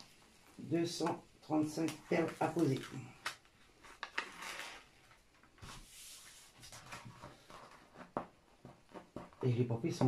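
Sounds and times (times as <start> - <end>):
canvas and paper rustling: 1.5 - 9.6.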